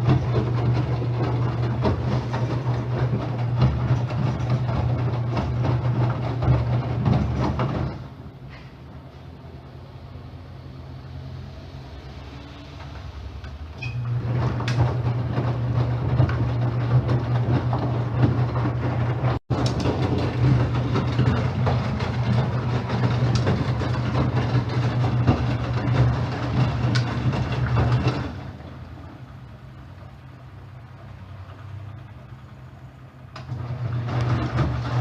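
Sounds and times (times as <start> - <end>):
washing machine humming and rattling: 0.0 - 35.0.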